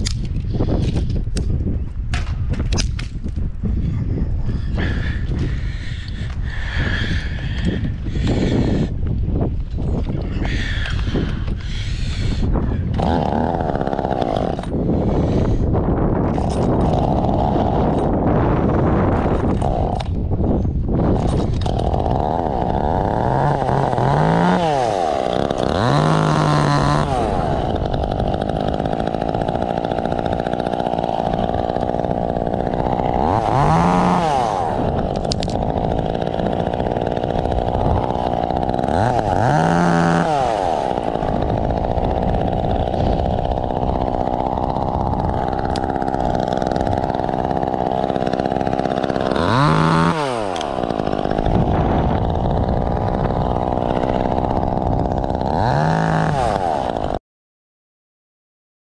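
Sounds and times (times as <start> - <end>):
chainsaw running: 0.0 - 3.8, 4.6 - 57.2.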